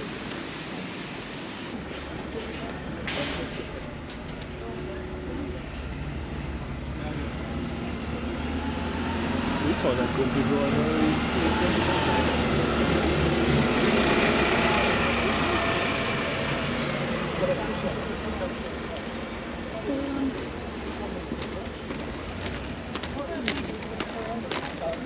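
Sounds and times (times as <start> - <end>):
motor vehicle rumble: 0.0 - 25.0
road noise hiss: 0.0 - 25.0
street traffic noise: 0.0 - 25.0.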